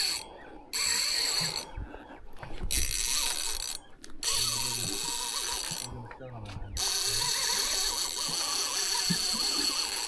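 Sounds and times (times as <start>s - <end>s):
fishing reel gears whirring: 0.0s - 1.8s, 2.7s - 5.9s, 6.8s - 10.0s.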